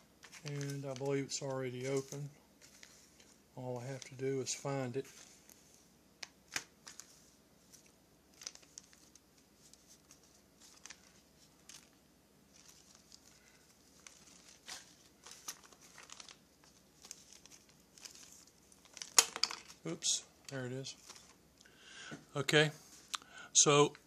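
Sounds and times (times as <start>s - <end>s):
plastic packets crinkling: 0.2s - 21.4s.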